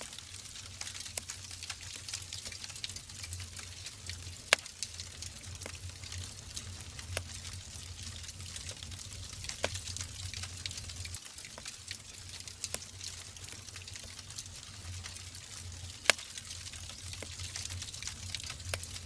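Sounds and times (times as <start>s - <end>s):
logs crackling in fireplace: 0.0s - 19.0s
low rumble of flames: 0.1s - 19.0s.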